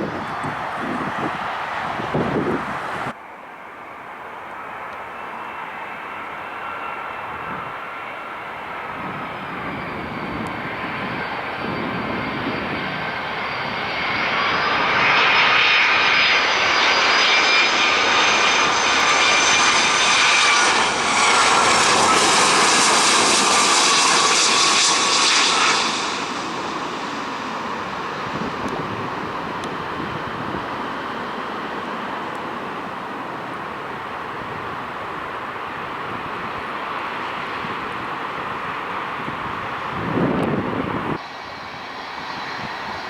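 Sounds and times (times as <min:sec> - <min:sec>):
jet engines passing: 0:00.0 - 0:43.0.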